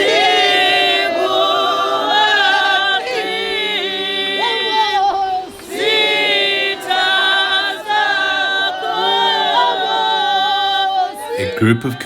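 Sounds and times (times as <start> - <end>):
group singing a hymn unaccompanied: 0.0 - 12.0.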